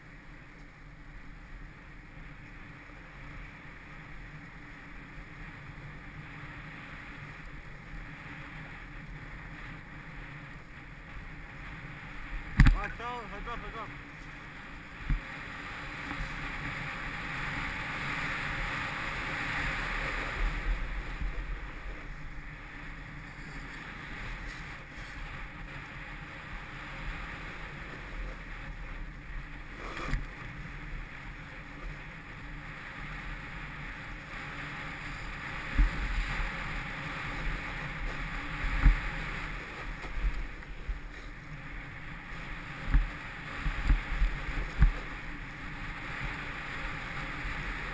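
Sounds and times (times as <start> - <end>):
snowboard scraping over snow: 0.0 - 47.9
wind on microphone: 6.9 - 47.9.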